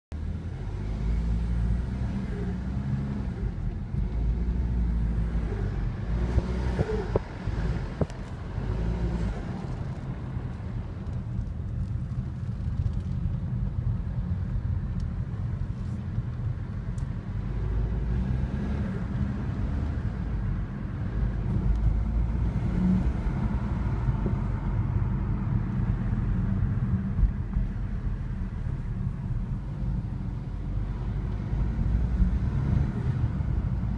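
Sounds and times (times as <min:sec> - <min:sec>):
diesel car engine rumbling: 0:00.1 - 0:33.9.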